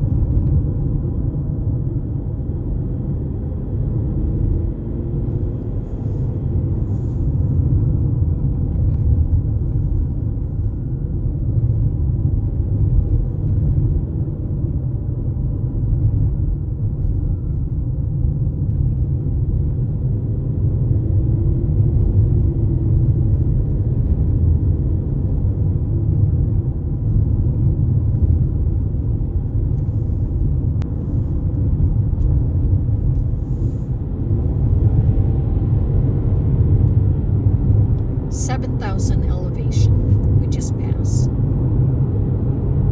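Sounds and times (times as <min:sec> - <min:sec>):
faint car engine: 0:00.0 - 0:19.1, 0:26.2 - 0:42.9
low road rumble inside car: 0:00.0 - 0:42.9.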